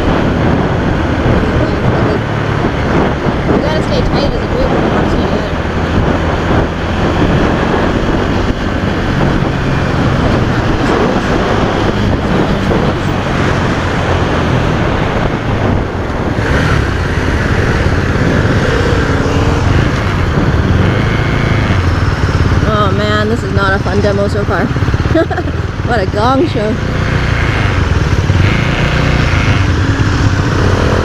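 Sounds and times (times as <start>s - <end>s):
motorcycle engine running: 0.0s - 31.0s
wind noise: 0.0s - 31.0s.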